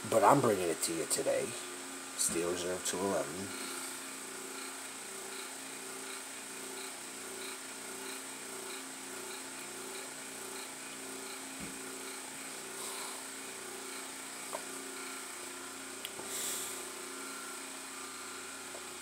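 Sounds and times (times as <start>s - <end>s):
small motor humming with throb: 0.0s - 19.0s.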